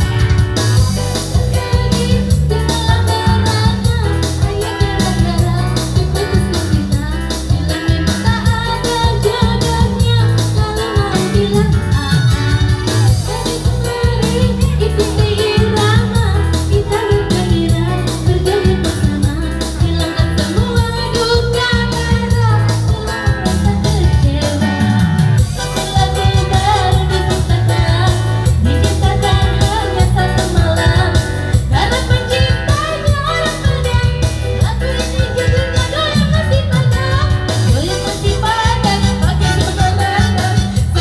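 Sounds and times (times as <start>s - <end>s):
electronic keyboard band: 0.0s - 41.0s
woman singing into microphone: 0.0s - 41.0s.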